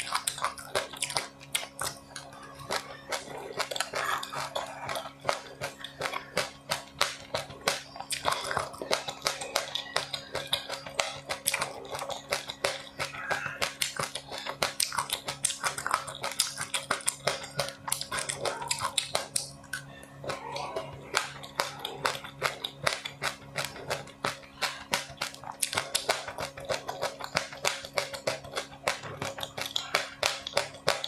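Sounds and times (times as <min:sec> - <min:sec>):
crunching and chewing snacks: 0:00.0 - 0:31.0
steady low hum: 0:00.0 - 0:31.0.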